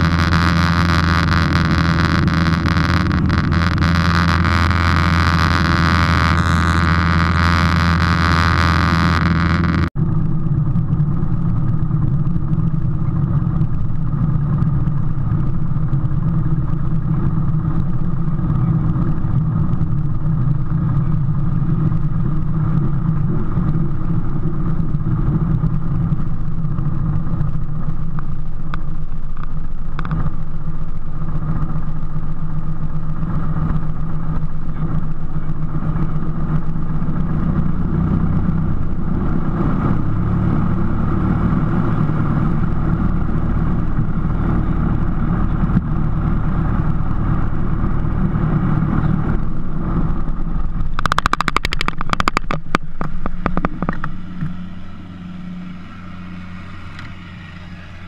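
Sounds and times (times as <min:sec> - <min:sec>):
light aircraft engine droning: 0:00.0 - 0:58.0
loud wind noise: 0:00.0 - 0:58.0
low power engine running: 0:00.0 - 0:58.0.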